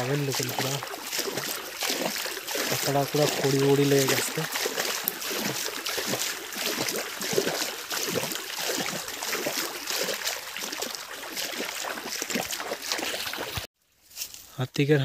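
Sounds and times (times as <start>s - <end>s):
stream gurgling: 0.0s - 13.7s.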